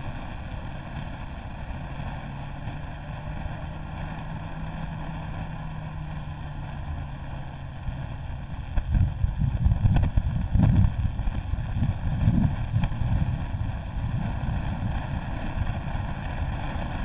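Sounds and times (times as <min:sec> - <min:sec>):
motorcycle engine running: 0:00.0 - 0:17.0
rushing air noise: 0:00.0 - 0:17.0.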